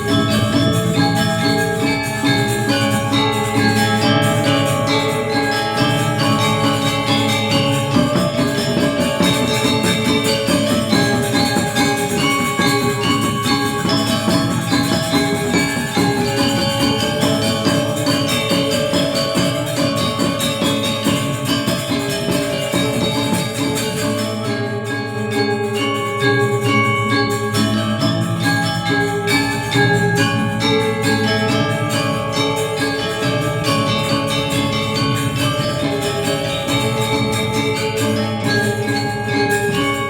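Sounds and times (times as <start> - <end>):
gamelan playing: 0.0 - 40.0.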